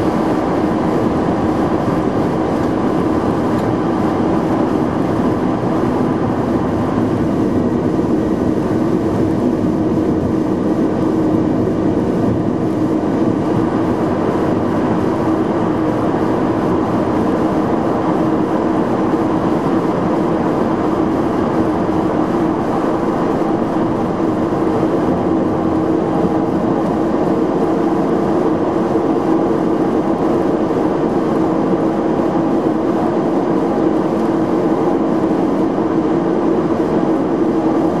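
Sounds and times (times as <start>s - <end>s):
turboprop engines droning: 0.0s - 38.0s.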